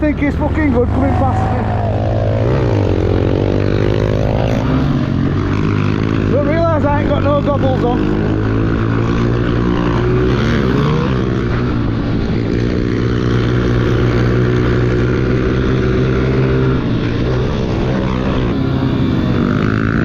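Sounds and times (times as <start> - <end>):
pit bike engine running: 0.0 - 20.0
second bike engine revving: 0.0 - 20.0.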